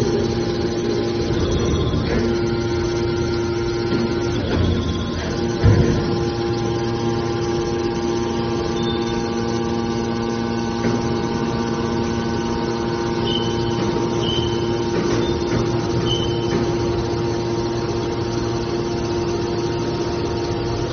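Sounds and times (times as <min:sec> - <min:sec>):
hydraulic pump motor humming: 0:00.0 - 0:20.9.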